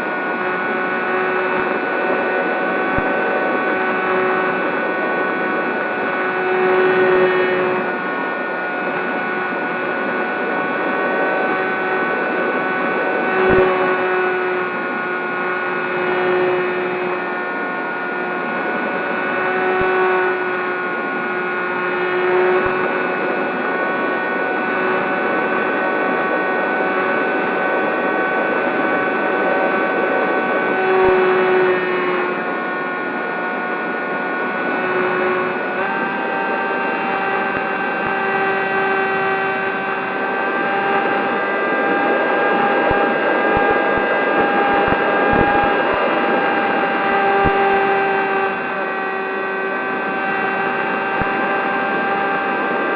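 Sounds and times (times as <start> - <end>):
electric model plane motor whine: 0.0 - 52.9.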